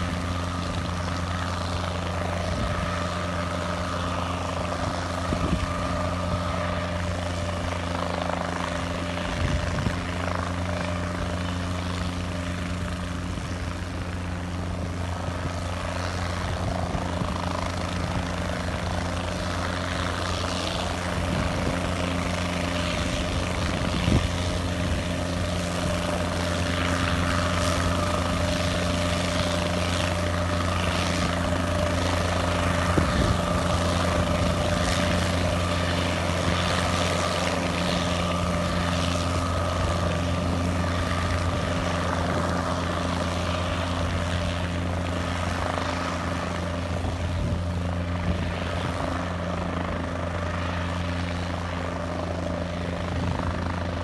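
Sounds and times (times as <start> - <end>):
helicopter rotor drone and whine: 0.0 - 54.0.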